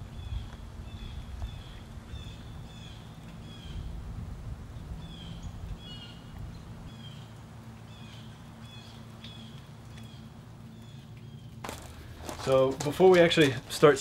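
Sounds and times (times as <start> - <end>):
small birds chirping: 0.0 - 4.0, 4.7 - 14.0
steady low hum: 0.0 - 14.0.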